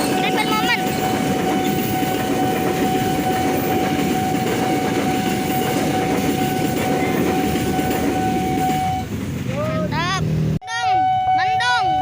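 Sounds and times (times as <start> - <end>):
train wheels rumbling on rails: 0.0 - 10.6.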